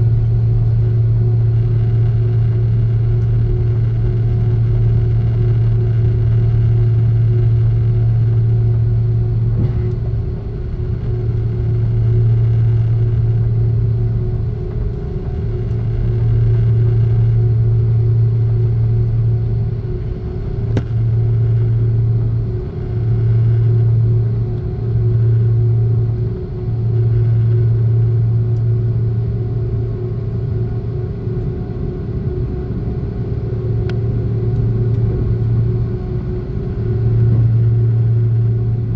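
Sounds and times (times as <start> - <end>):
aircraft cabin low rumble: 0.0 - 38.9
constant cabin hum: 0.0 - 38.9.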